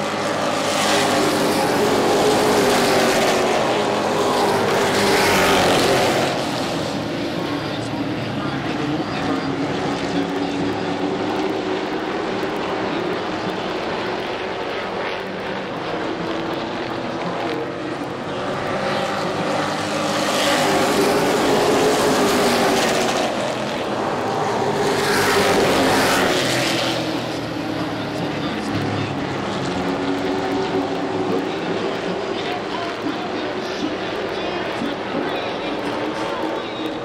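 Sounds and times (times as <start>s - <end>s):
race truck engines passing: 0.0s - 37.0s.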